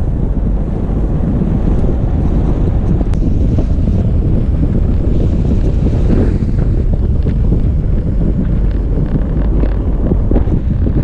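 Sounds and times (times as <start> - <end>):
vehicle driving on snowy dirt road: 0.0 - 11.0
wind buffeting microphone: 0.0 - 11.0.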